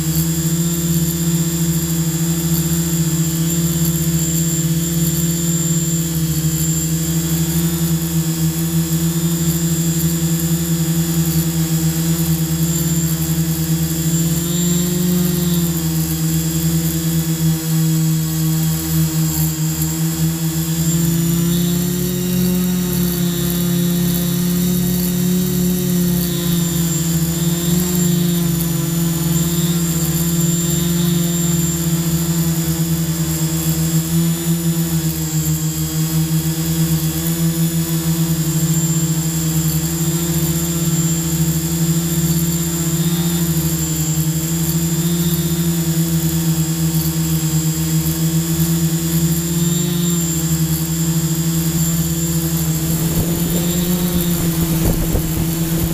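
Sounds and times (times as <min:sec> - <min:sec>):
drone propellers buzzing: 0:00.0 - 0:55.9.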